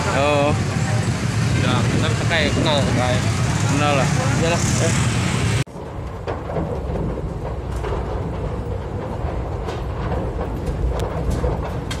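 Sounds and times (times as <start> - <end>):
fire rumbling: 0.0 - 12.0.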